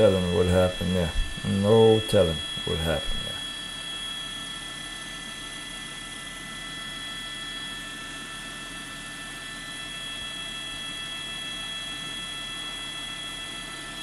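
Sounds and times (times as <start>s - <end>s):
helicopter rotor noise: 0.0s - 14.0s
helicopter turbine whine: 0.0s - 14.0s.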